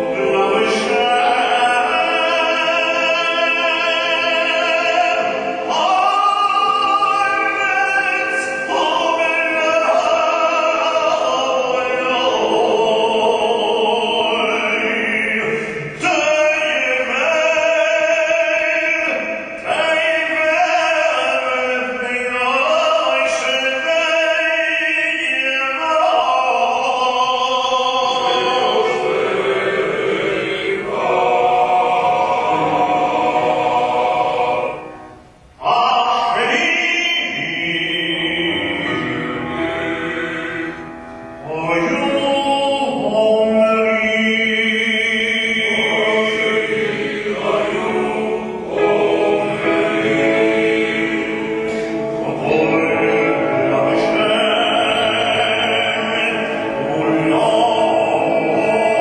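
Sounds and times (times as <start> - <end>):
man singing liturgical chant: 0.0 - 34.9, 35.6 - 40.8, 41.4 - 59.0.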